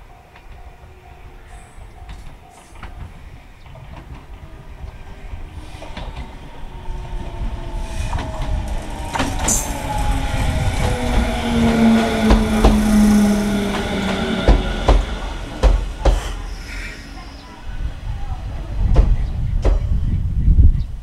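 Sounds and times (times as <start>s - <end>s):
train hum: 0.0s - 21.0s.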